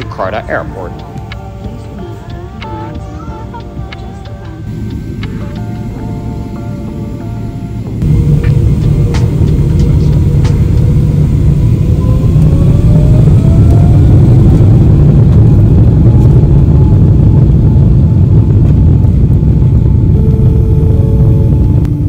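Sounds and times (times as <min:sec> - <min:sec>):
jet engines spooling up: 0:00.0 - 0:22.0.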